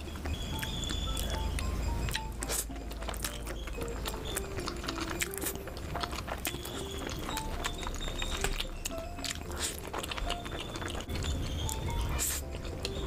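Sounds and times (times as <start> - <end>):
light background music: 0.0 - 13.0
wet chewing and smacking: 0.0 - 13.0.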